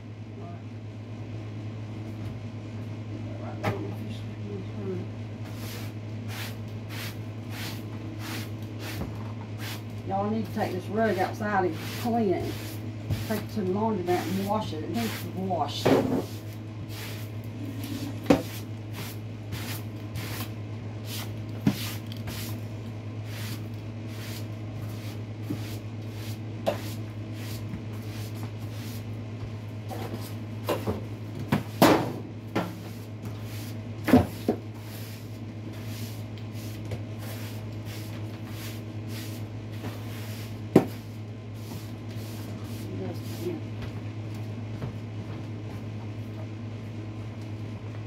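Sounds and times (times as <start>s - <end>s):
low household hum: 0.0s - 48.0s.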